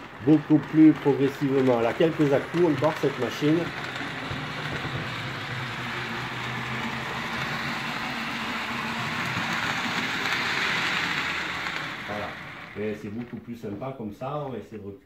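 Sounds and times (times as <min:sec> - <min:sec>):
electric motor hum: 0:00.0 - 0:13.4
model train wheels rumbling: 0:00.0 - 0:13.8.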